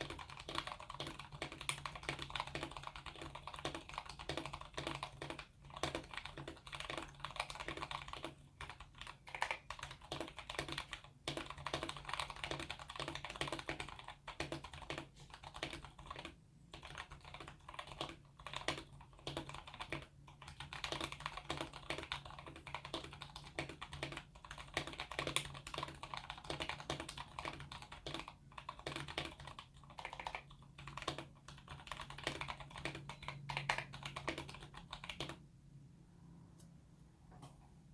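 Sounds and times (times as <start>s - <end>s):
mechanical keyboard typing: 0.0s - 35.4s.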